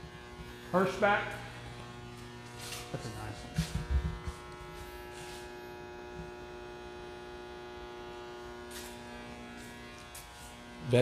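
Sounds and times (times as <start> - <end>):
buzzing electrical mains hum: 0.0 - 11.0.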